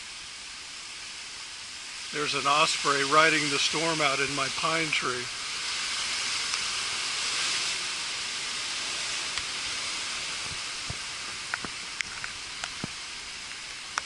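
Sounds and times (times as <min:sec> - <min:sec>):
wind and rain hissing: 0:00.0 - 0:14.0.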